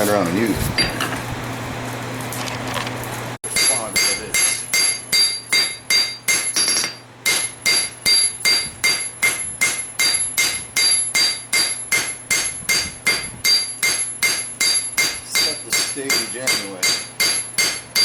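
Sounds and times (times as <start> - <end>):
hammer ringing on hot metal: 3.4 - 18.0.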